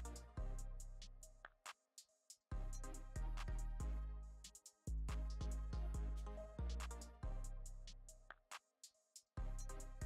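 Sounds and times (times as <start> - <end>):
electronic music with bass and drums: 0.0 - 1.5, 2.5 - 8.5, 9.2 - 10.0.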